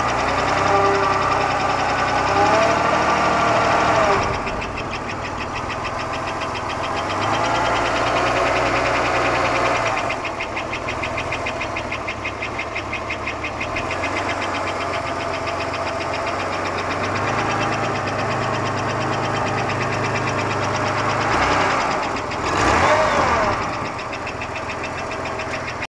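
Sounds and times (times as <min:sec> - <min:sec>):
car engine hum: 0:00.0 - 0:25.9
engine ticking knock: 0:00.0 - 0:25.9.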